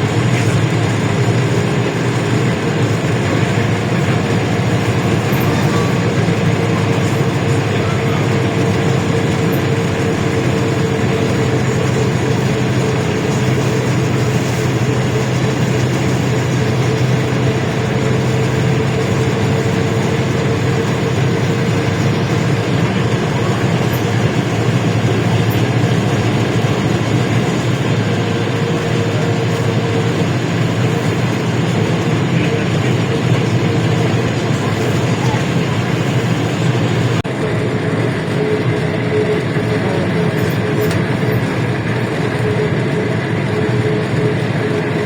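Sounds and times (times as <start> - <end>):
bus engine humming: 0.0 - 45.0.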